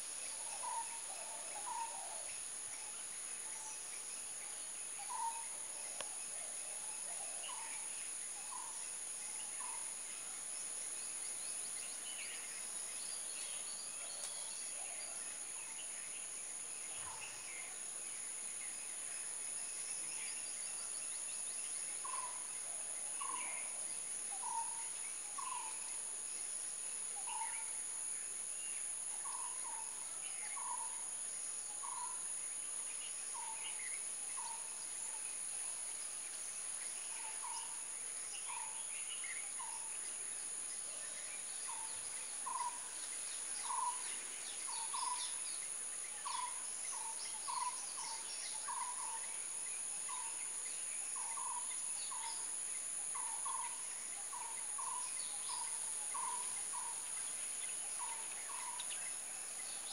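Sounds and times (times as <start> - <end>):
insect drone: 0.0 - 59.9.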